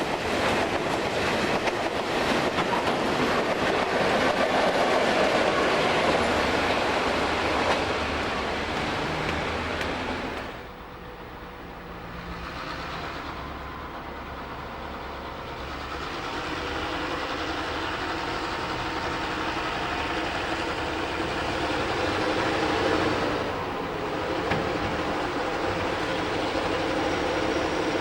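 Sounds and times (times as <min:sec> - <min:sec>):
diesel locomotive engine: 0:00.0 - 0:28.0
train rail noise: 0:00.0 - 0:28.0.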